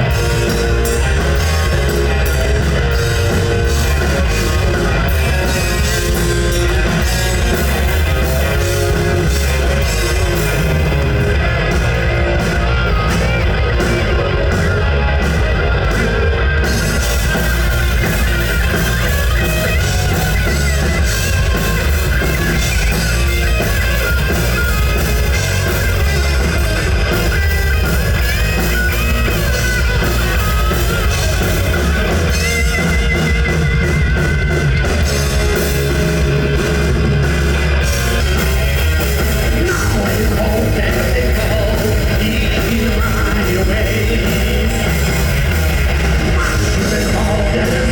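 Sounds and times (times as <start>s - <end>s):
lead guitar bending notes: 0.0s - 47.9s
rock band playing heavy metal: 0.0s - 47.9s.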